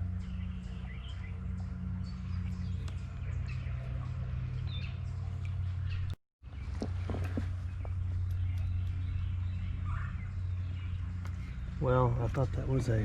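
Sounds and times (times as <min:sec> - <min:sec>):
birds chirping: 0:00.0 - 0:13.0
low rumble: 0:00.0 - 0:13.0.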